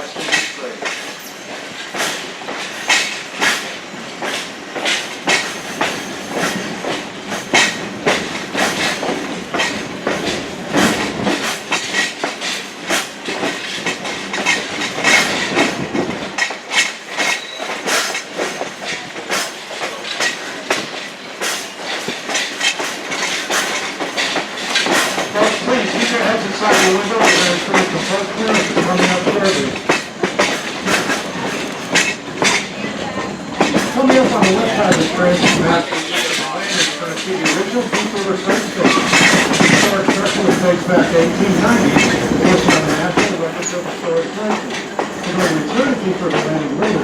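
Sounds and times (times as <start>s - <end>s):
train wheels clacking on rail joints: 0.0s - 47.0s.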